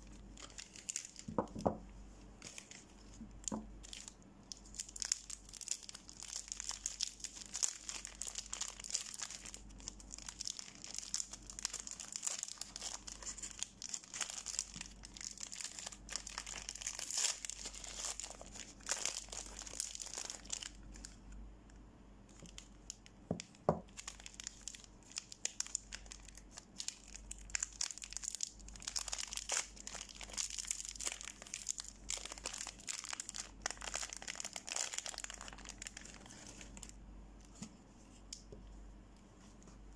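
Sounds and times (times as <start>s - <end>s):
soap wrappers crinkling and tearing: 0.3s - 1.8s, 2.4s - 21.2s, 22.3s - 37.0s.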